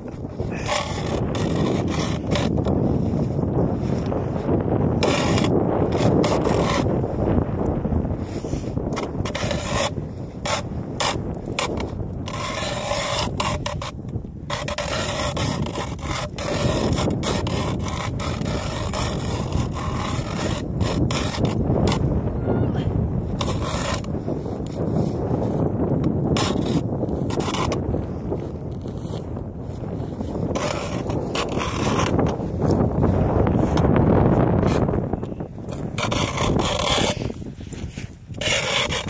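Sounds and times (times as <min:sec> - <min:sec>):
ice auger scraping ice: 0:00.0 - 0:39.0.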